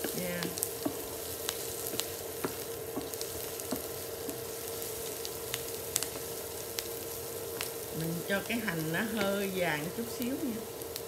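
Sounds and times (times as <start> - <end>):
faint steady hum: 0.0 - 11.0
onion sizzling in oil: 0.0 - 11.0.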